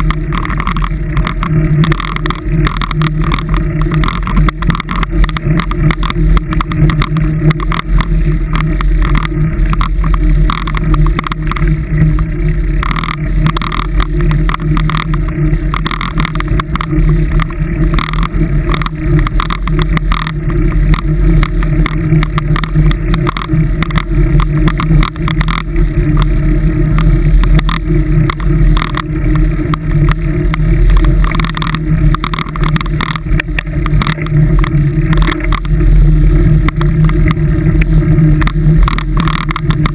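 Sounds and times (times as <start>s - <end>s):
tyre noise on snow road: 0.0s - 39.9s
vehicle engine drone: 0.0s - 39.9s.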